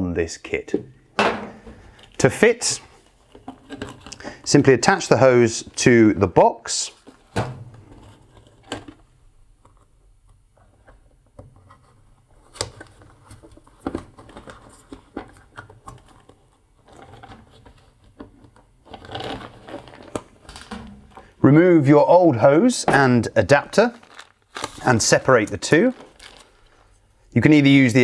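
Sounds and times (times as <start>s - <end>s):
plastic hose crinkling and rustling: 1.5s - 21.4s, 22.8s - 28.0s.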